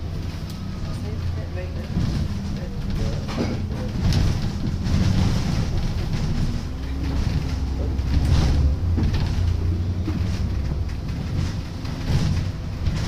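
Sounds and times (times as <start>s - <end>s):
bodywork rattles and knocks: 0.0s - 13.0s
bus engine rumble: 0.0s - 13.0s.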